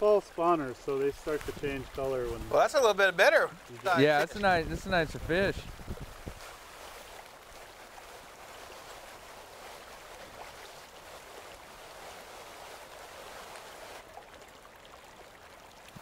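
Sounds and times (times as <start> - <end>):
shallow river water flowing: 0.0 - 16.0.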